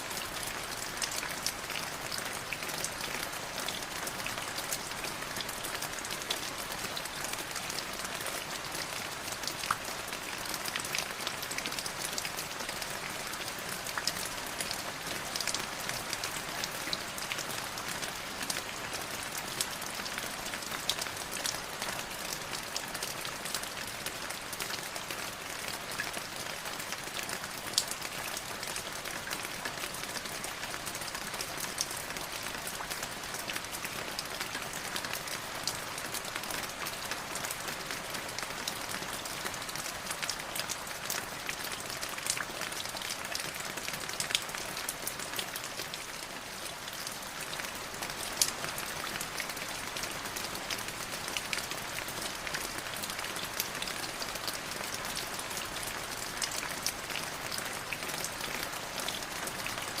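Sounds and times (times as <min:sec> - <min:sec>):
light drizzling rain: 0:00.0 - 1:00.0.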